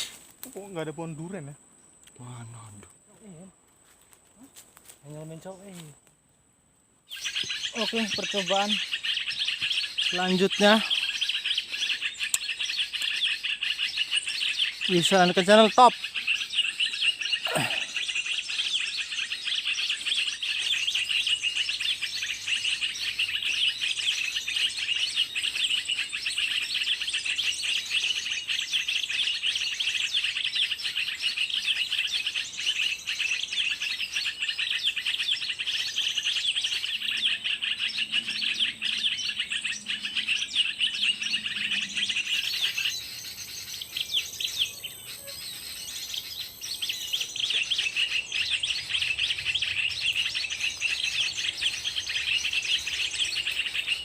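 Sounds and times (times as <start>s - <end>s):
small birds chirping: 0.0s - 6.4s, 7.0s - 54.0s.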